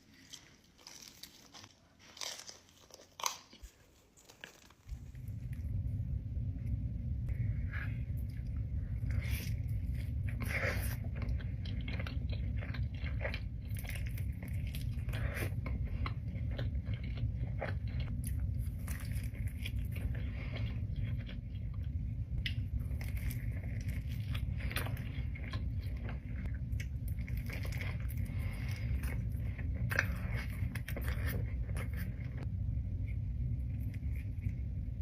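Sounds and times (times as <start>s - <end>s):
person chewing pizza: 0.0s - 5.9s, 7.3s - 32.5s
steady low hum: 0.0s - 35.0s.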